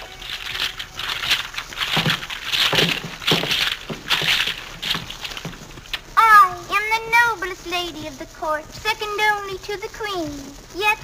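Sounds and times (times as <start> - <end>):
necklace crackling against microphone: 0.0 - 11.0.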